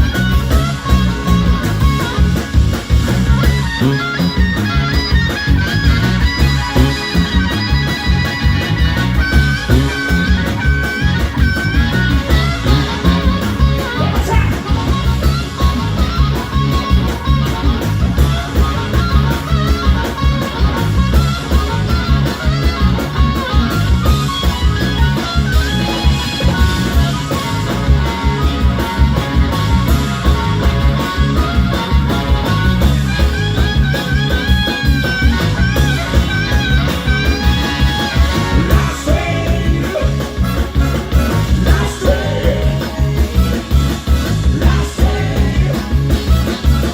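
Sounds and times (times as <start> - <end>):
blues band playing live: 0.0 - 46.9
electric guitar lead: 0.0 - 46.9.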